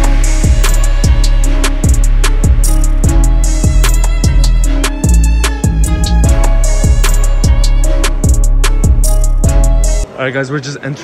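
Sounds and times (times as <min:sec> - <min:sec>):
kick drum and cymbal beat: 0:00.0 - 0:10.0
held bass and synth notes: 0:00.0 - 0:10.1.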